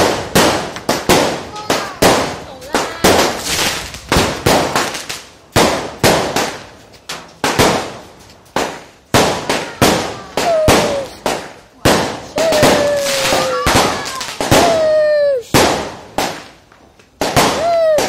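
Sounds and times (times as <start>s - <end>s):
fireworks bangs with crackling: 0.0s - 18.0s.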